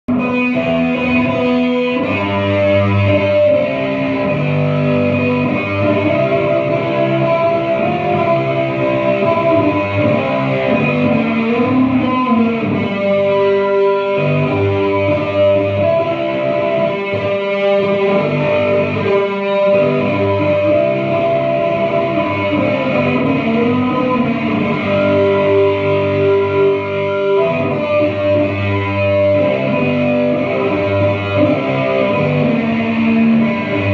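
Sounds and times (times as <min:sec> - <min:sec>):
guitar chords: 0:00.1 - 0:33.9.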